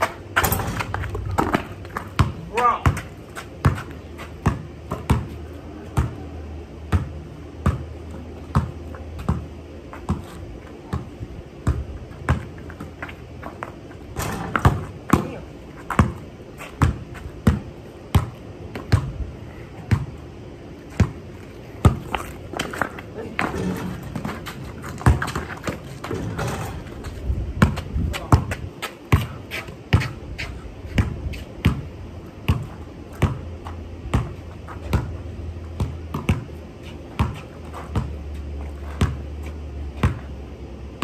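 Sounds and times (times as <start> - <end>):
basketball bouncing on concrete: 0.0 - 20.2, 20.9 - 40.5.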